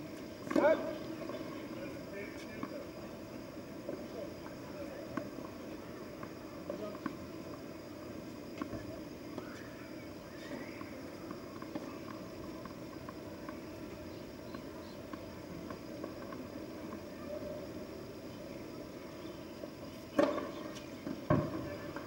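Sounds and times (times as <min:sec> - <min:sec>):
open-air background hiss: 0:00.0 - 0:22.0.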